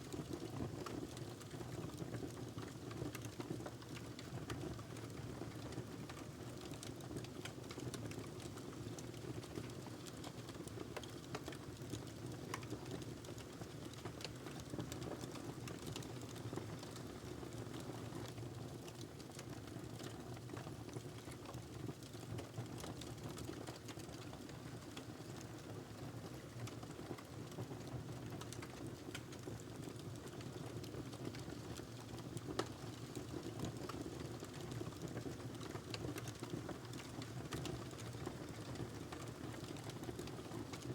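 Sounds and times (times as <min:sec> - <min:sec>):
wood fire crackling: 0:06.1 - 0:22.5, 0:23.2 - 0:25.7, 0:26.3 - 0:40.9.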